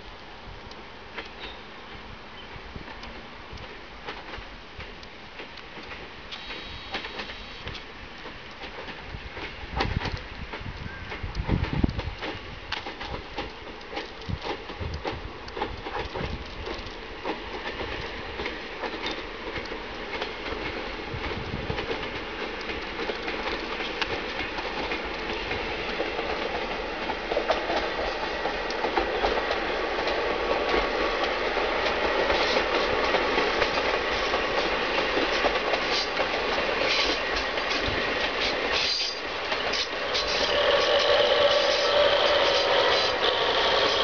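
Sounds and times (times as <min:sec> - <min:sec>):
diesel train rumbling: 0:00.0 - 0:44.0.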